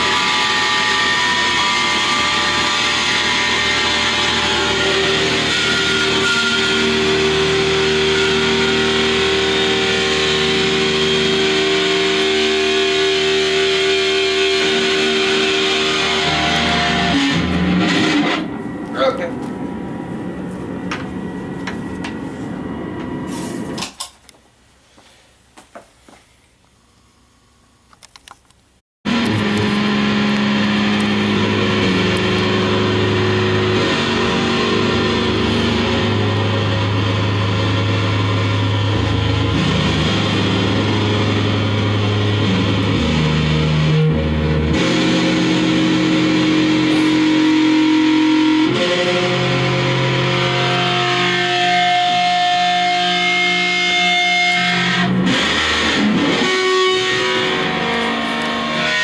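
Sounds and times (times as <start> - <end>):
electric guitar feedback drone: 0.0 - 23.8, 29.1 - 59.0.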